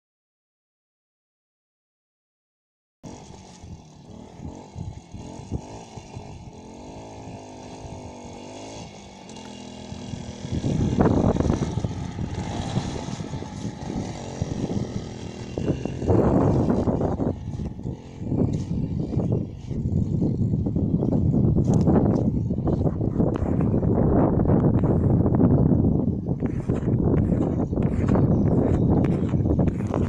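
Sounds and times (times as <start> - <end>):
motorcycle engine running: 3.1 - 30.0.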